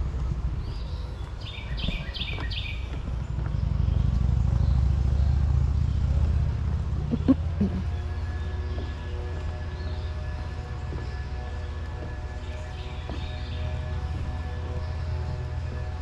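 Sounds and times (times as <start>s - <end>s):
songbird chirping: 0.0s - 16.0s
steady low rumble: 0.0s - 16.0s.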